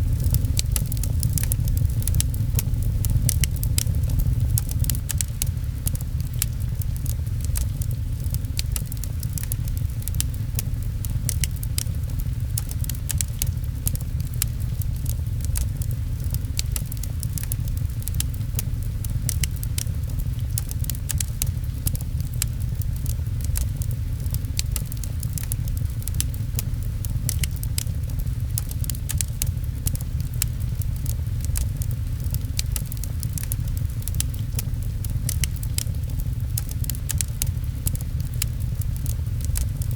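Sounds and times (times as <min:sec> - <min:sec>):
rain rumble: 0:00.0 - 0:39.9
wood fire crackling: 0:00.0 - 0:39.9.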